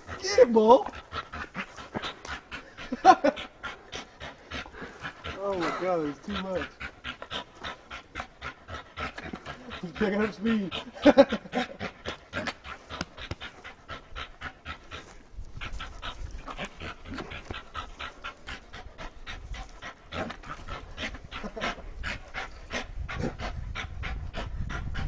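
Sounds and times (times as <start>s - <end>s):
dog panting fast: 0.0s - 25.0s.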